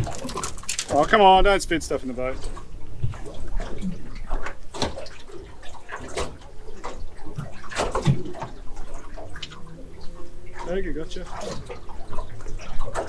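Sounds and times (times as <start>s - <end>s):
fish flapping on deck: 0.0s - 13.0s.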